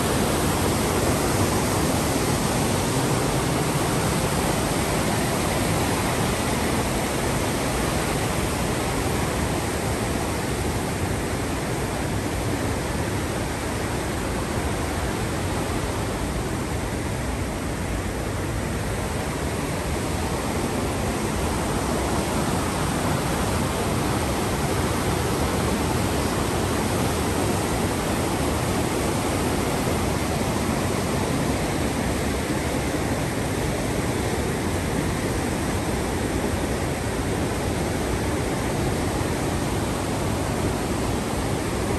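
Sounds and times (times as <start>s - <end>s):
rushing white water: 0.0s - 41.9s.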